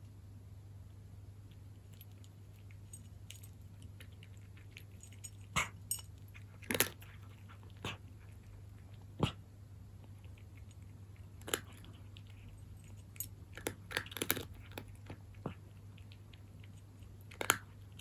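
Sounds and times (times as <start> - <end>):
steady low hum: 0.0 - 18.0
cat crunching dry kibble: 1.5 - 9.2, 10.0 - 18.0.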